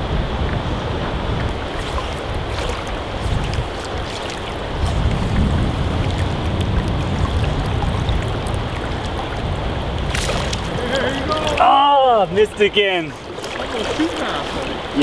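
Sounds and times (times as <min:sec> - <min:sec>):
wind buffeting microphone: 0:00.0 - 0:15.0
river current rushing: 0:00.7 - 0:15.0.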